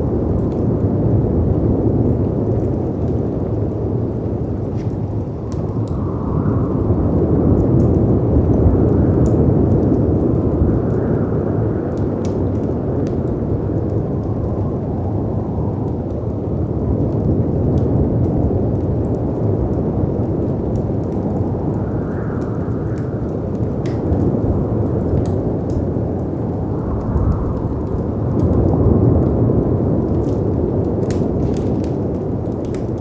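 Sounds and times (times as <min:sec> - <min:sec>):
deep rushing wind and surf: 0:00.0 - 0:33.0
wind howling: 0:00.0 - 0:33.0
wood fire crackling: 0:00.0 - 0:33.0.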